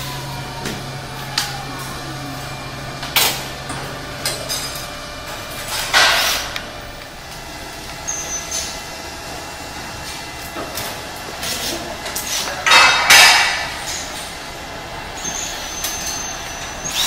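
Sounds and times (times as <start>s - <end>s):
carts rattling on concrete floor: 0.0s - 17.0s.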